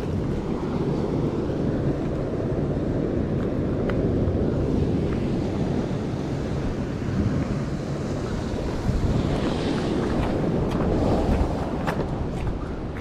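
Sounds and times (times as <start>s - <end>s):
ocean surf against rocks: 0.0s - 13.0s
wind noise on microphone: 0.0s - 13.0s.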